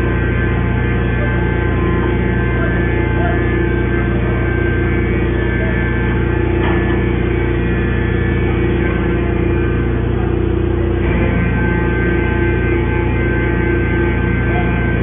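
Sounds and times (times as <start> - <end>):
hydraulic baler motor hum: 0.0 - 15.0.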